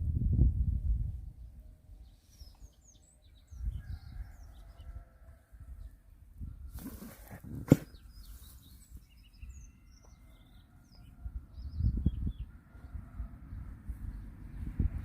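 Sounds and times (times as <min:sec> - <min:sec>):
sparrows chirping: 0:01.9 - 0:15.0.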